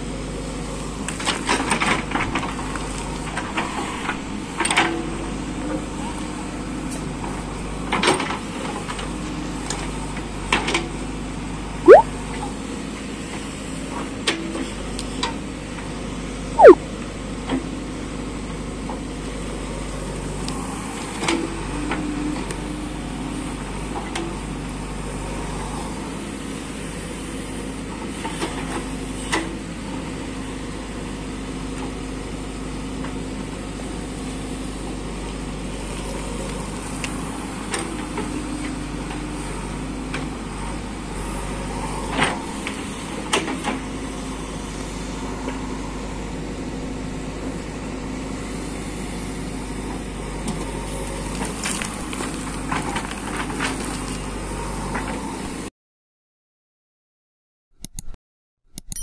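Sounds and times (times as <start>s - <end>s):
backhoe diesel engine running: 0.0s - 16.5s, 17.2s - 55.5s.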